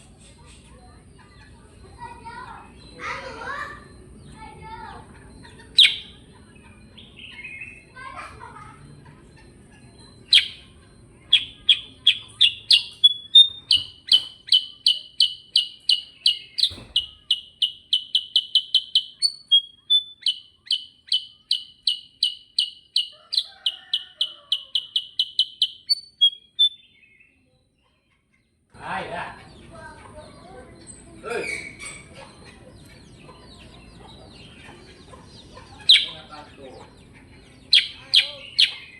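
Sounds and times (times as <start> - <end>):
bulbul singing rapid chirps: 0.1 - 27.4, 28.8 - 38.9.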